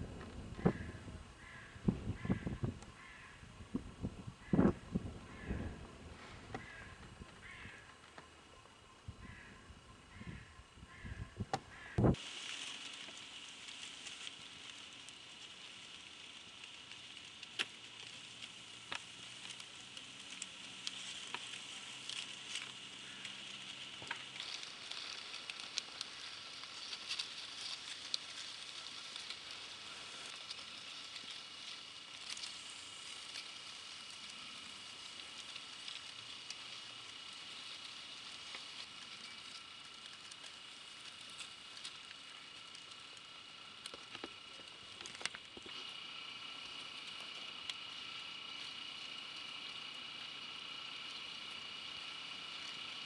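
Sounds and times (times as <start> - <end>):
dry reeds and leaves crackling: 0.0 - 53.0
thin steady high whine: 0.0 - 53.0.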